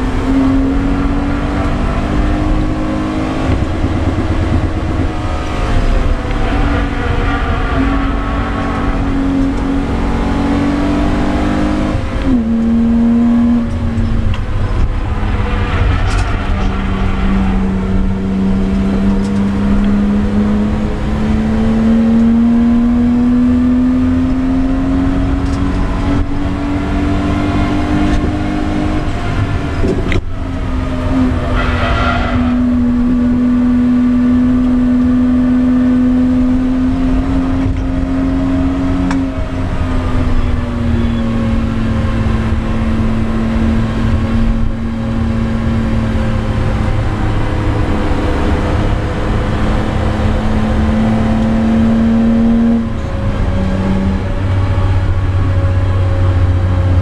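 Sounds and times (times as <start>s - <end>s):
car engine at full load: 0.0s - 57.0s
road noise: 0.0s - 57.0s
wind noise: 0.0s - 57.0s.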